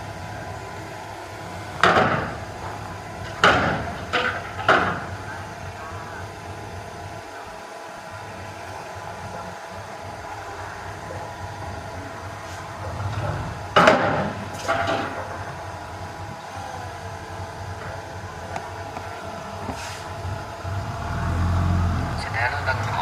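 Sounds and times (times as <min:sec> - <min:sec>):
heavy machinery diesel engine: 0:00.0 - 0:23.0.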